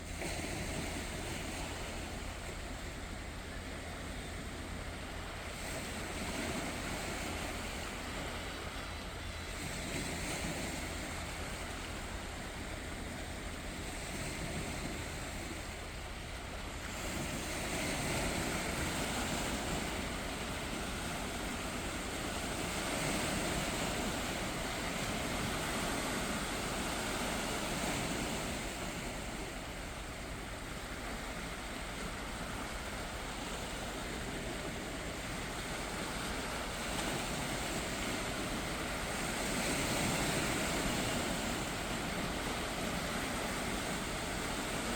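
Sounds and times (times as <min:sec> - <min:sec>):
waves washing ashore: 0:00.0 - 0:44.9.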